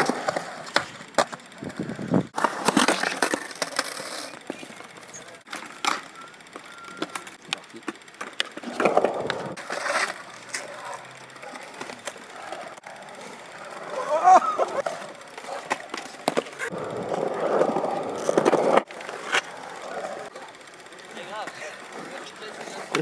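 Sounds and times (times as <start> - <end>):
skateboard clacking on concrete: 0.0 - 14.0, 14.7 - 23.0
skateboard wheels rolling on concrete: 0.0 - 23.0.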